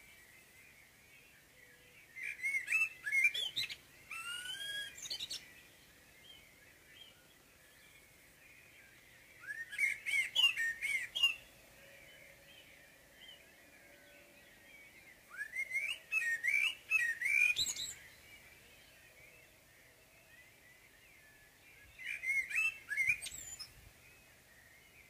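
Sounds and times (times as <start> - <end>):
blackbird singing: 0.0 - 25.0
faint birdsong: 0.0 - 25.0.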